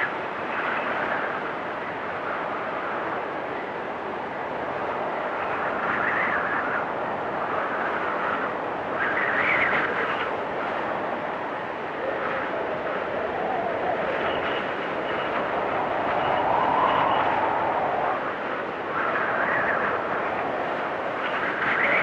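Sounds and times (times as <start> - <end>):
storm wind rushing: 0.0 - 22.0
whistling wind gusts: 0.0 - 22.0.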